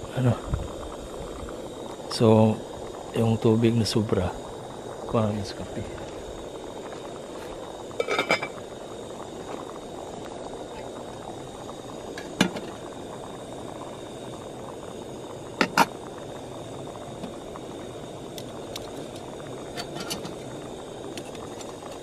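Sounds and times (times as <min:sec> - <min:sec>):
camp stove burning: 0:00.0 - 0:22.0.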